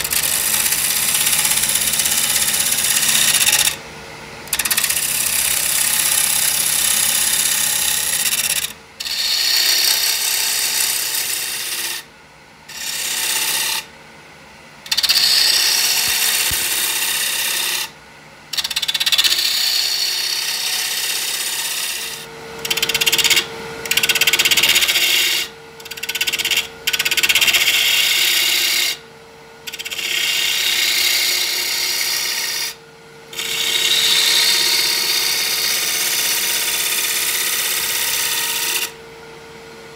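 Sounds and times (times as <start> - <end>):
lathe motor hum: 0.0 - 3.8, 4.5 - 12.0, 12.7 - 13.8, 14.9 - 17.9, 18.5 - 29.0, 29.7 - 39.0
tool rubbing spinning wood: 0.0 - 3.8, 4.5 - 12.0, 14.9 - 17.9, 18.5 - 29.0, 29.7 - 39.0.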